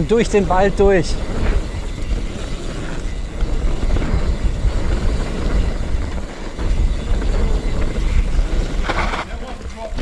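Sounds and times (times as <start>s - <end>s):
bike rattling: 0.0s - 10.0s
tyres rumbling on dirt trail: 0.0s - 10.0s
wind buffeting microphone: 0.0s - 10.0s.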